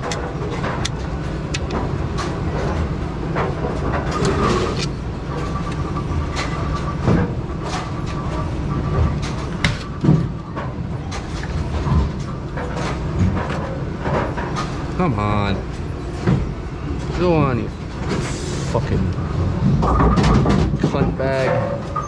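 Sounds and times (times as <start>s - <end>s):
machinery low rumble: 0.0s - 22.0s.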